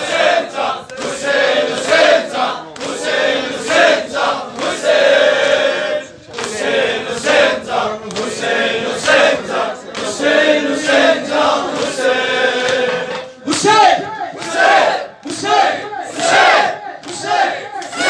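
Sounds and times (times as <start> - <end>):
men chanting a lament: 0.0 - 18.0.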